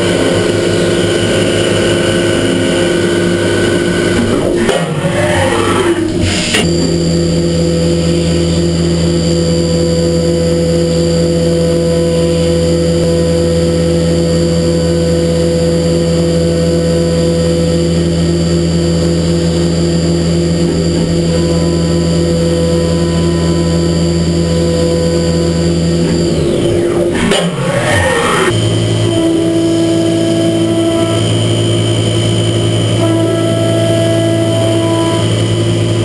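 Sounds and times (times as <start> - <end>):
low hum: 0.0 - 36.0
mill spindle cutting whine: 0.0 - 36.0.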